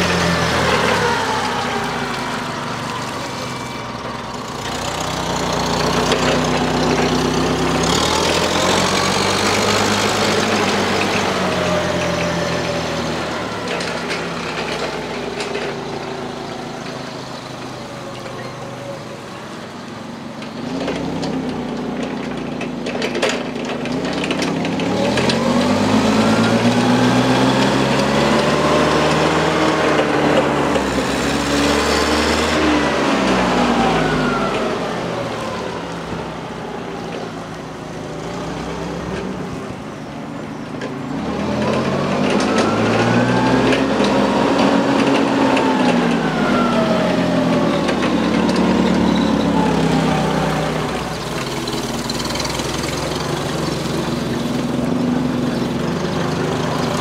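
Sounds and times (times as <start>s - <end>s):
forklift engine revving: 0.0s - 57.0s.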